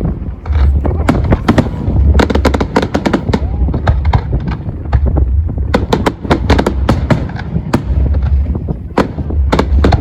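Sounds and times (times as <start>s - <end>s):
deep rumble: 0.0s - 10.0s
fireworks bangs and crackles: 0.0s - 10.0s.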